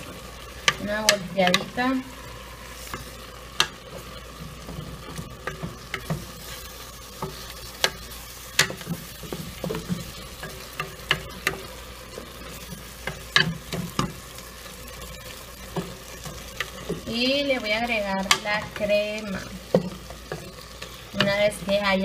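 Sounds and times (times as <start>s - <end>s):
faint sizzle: 0.0s - 22.0s.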